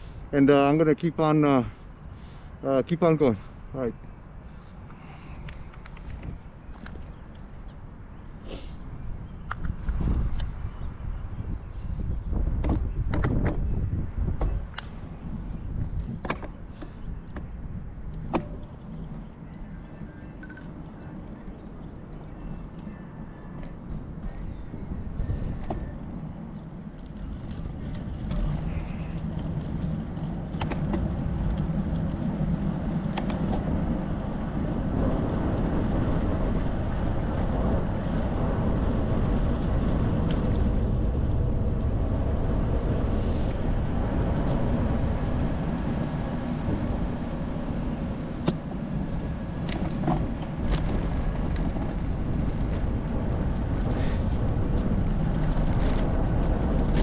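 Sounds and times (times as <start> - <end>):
bicycle tyre and road noise: 0.0 - 57.0
wind rushing over microphone: 0.0 - 57.0.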